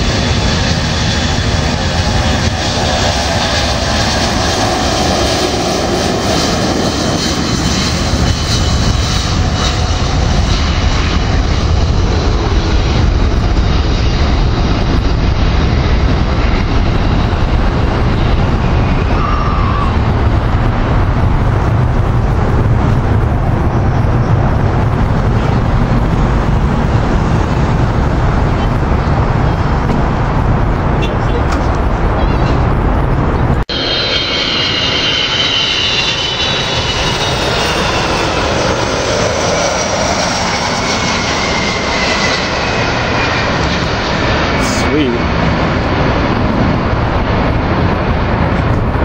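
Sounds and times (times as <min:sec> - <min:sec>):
jet engines roaring: 0:00.0 - 0:49.0.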